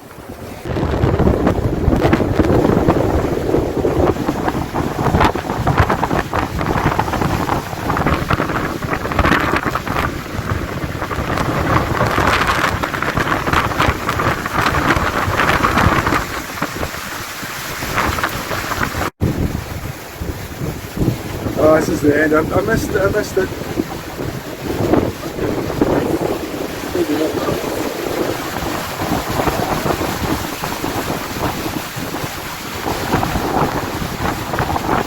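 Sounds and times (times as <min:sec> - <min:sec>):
rain: 0:00.0 - 0:35.0
wind buffeting microphone: 0:00.0 - 0:35.0.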